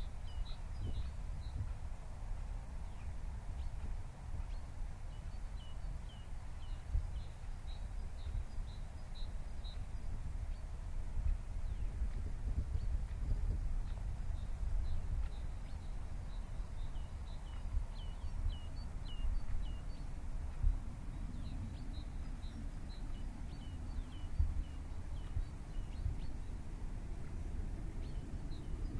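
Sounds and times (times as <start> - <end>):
small birds chirping: 0.0 - 28.9
wind rumble on microphone: 0.0 - 28.9.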